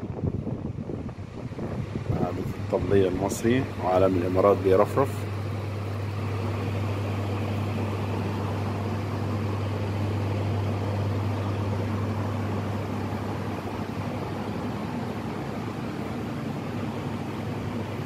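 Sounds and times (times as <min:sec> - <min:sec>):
cooling equipment hum and hiss: 0:00.0 - 0:18.0.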